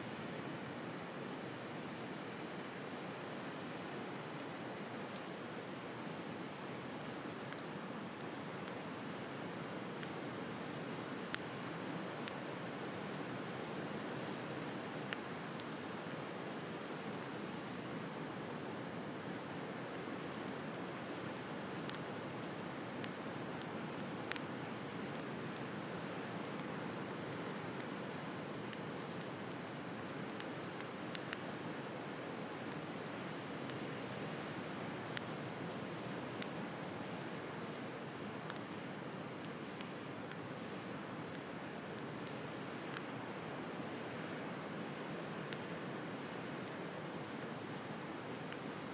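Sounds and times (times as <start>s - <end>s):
bonfire crackling and popping: 2.4s - 3.6s, 6.5s - 43.2s, 44.6s - 48.9s.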